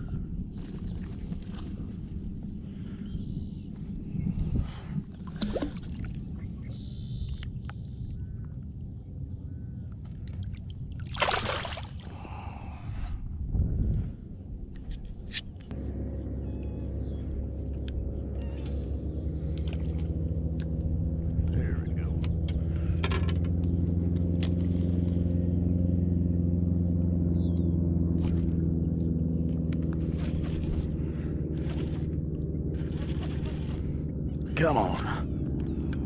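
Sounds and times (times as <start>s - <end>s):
low motor hum: 0.0s - 36.0s.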